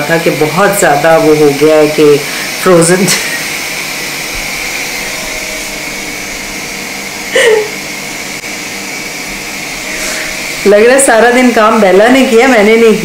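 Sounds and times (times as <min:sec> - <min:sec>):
motor whirring: 0:01.0 - 0:13.0.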